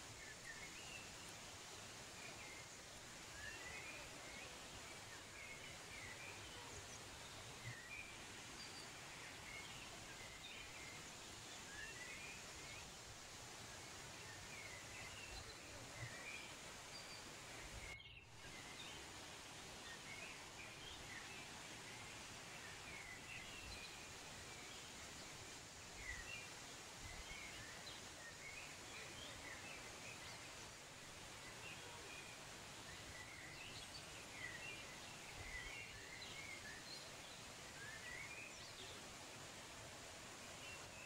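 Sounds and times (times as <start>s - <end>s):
faint outdoor hiss: 0.0s - 41.0s
songbirds chirping: 0.0s - 41.0s.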